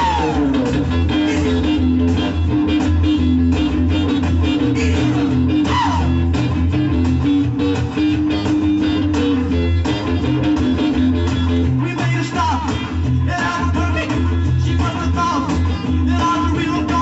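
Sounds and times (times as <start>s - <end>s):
driving bass line: 0.0s - 17.0s
electric guitar: 0.0s - 17.0s.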